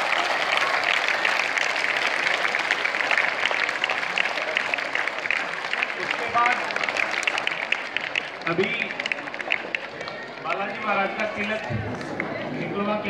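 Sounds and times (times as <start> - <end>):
crowd of children clapping: 0.0 - 12.5.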